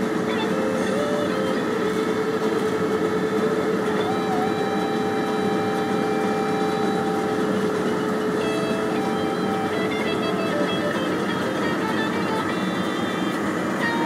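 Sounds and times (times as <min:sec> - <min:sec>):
long held tones: 0:00.0 - 0:14.0
road and engine roar: 0:00.0 - 0:14.0.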